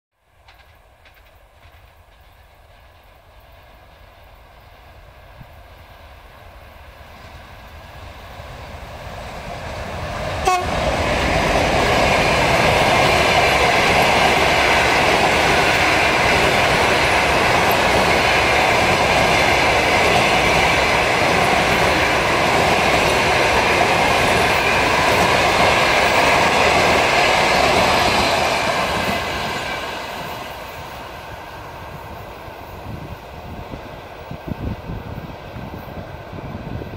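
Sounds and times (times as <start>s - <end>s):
train wheels on rails: 0.2s - 36.9s
diesel locomotive passing: 0.3s - 36.9s.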